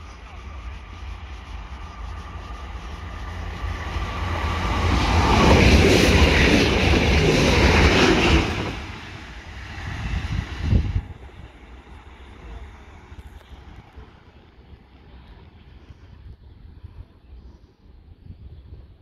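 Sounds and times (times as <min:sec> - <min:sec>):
diesel train passing: 0:00.0 - 0:17.1.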